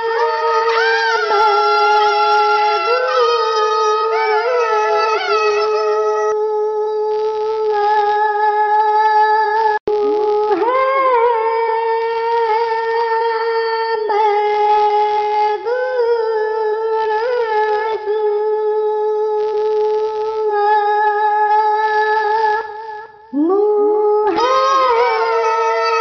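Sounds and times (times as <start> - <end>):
person humming long notes: 0.0 - 26.0.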